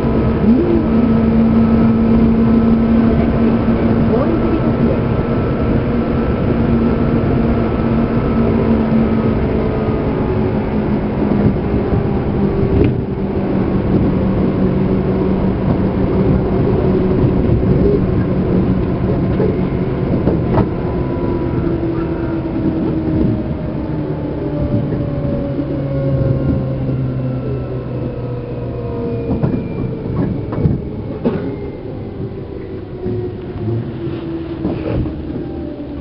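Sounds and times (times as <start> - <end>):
train rumble: 0.0 - 36.0.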